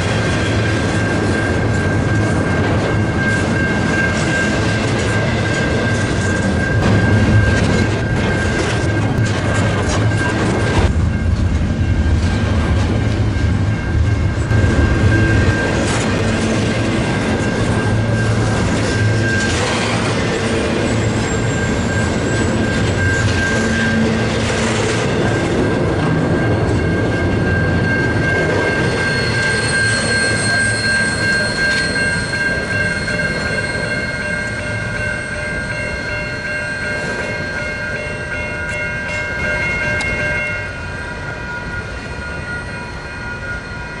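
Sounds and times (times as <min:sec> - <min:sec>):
high ringing tones: 0:00.0 - 0:44.0
train wheels rumbling on rails: 0:00.0 - 0:44.0.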